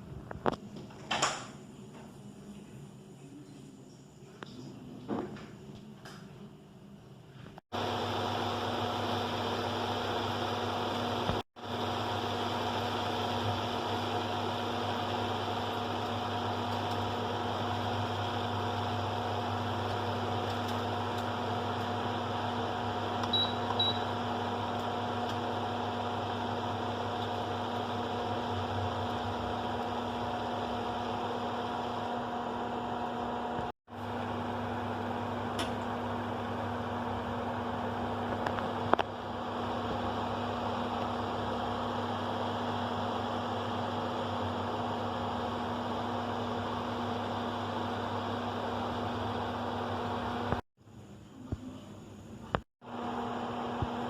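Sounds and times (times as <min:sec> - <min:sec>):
appliance fan motor humming: 0:07.8 - 0:50.6, 0:52.8 - 0:54.0.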